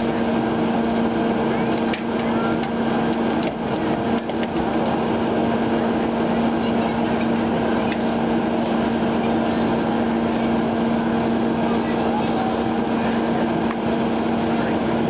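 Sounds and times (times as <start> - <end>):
hydraulic power unit droning: 0.0 - 15.0.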